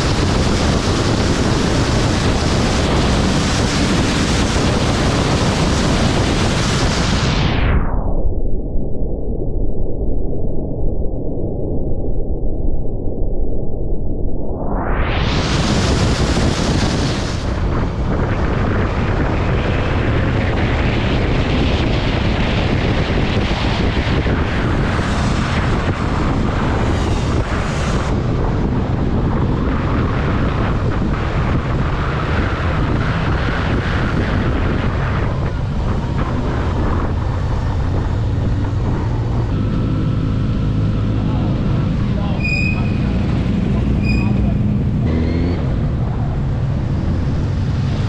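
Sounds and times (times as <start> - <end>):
wind rush on microphone: 0.0 - 48.0.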